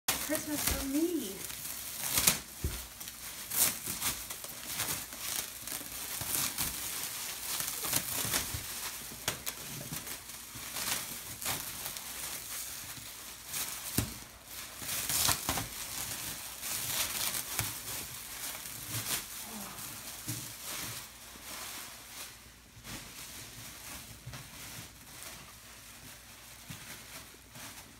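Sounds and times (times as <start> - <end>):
plastic wrap crinkling: 0.1 - 27.9.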